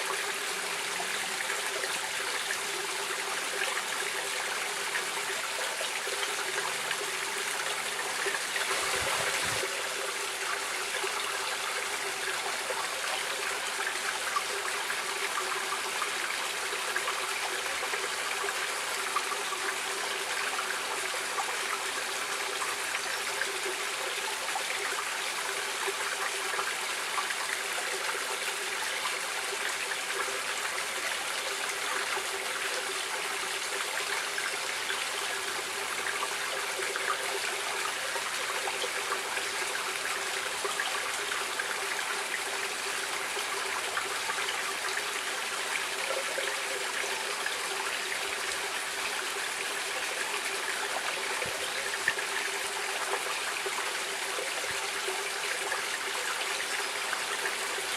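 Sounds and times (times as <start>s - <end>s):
stream running over stones: 0.0s - 57.9s.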